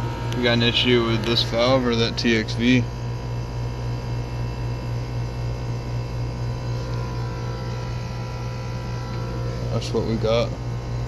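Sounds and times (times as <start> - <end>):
heat pump humming: 0.0 - 11.0.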